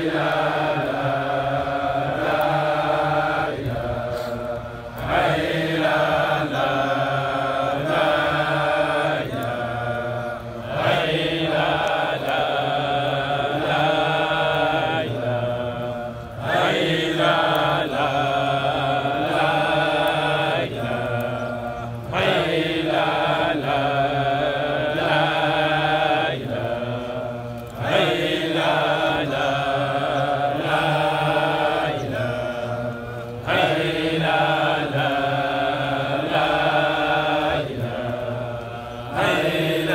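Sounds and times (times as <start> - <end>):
men chanting in unison: 0.0 - 39.9.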